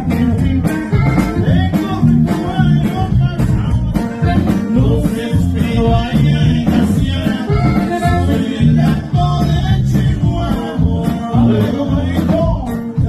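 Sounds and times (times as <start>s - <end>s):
bass and drum beat: 0.0s - 13.0s
button accordion lead: 0.0s - 13.0s
man singing: 0.0s - 13.0s.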